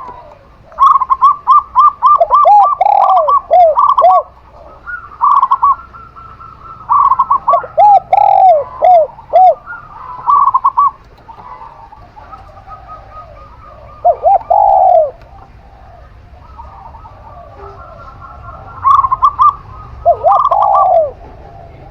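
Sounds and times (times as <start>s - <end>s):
doves cooing: 0.0s - 21.9s.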